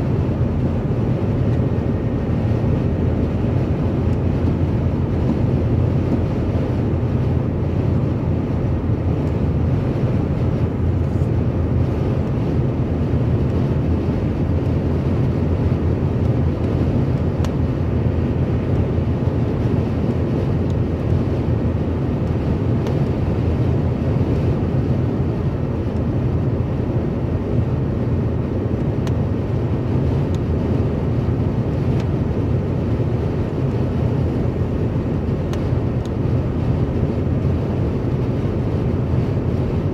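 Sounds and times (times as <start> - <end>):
car cruising with road noise: 0.0 - 39.9.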